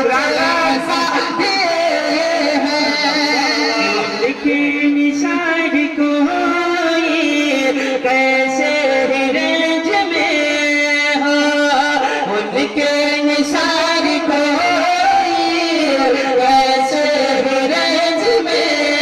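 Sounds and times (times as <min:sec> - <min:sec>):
men singing devotional song: 0:00.0 - 0:19.0.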